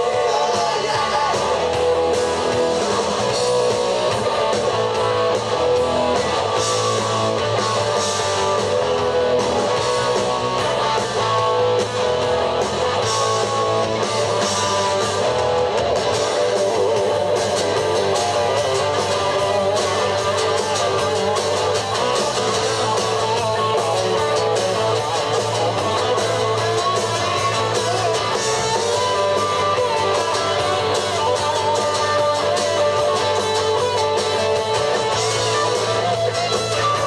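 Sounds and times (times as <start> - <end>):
electric guitars strummed: 0.0 - 37.0
live rock band playing: 0.0 - 37.0.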